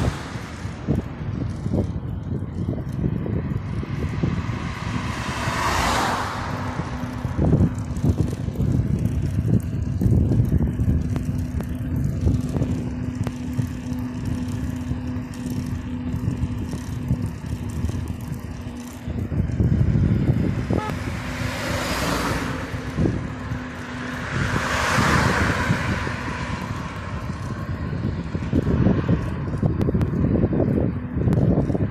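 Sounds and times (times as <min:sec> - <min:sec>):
bicycle rolling on asphalt: 0:00.0 - 0:31.9
car passing: 0:00.0 - 0:31.9
wind rumble on microphone: 0:00.0 - 0:31.9.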